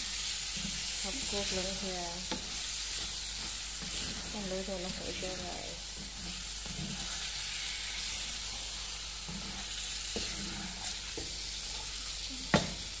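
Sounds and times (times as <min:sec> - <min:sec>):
food sizzling in a pan: 0:00.0 - 0:13.0
wooden spatula stirring: 0:00.2 - 0:12.1.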